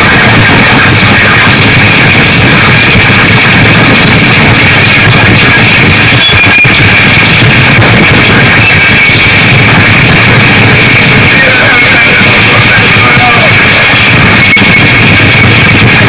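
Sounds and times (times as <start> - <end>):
harsh distorted electronic noise music: 0.0 - 16.0.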